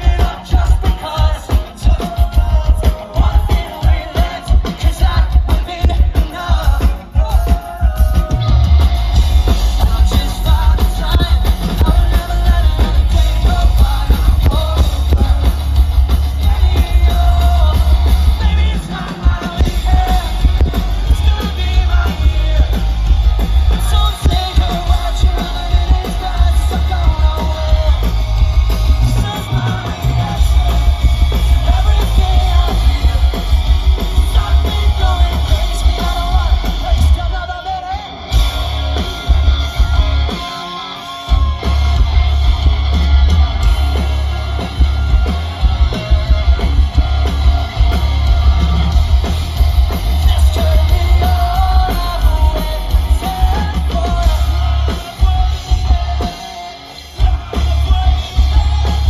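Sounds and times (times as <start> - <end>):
bass guitar: 0.0 - 59.0
drum kit: 0.0 - 59.0
electric guitars: 0.0 - 59.0
lead vocal singing: 0.0 - 59.0.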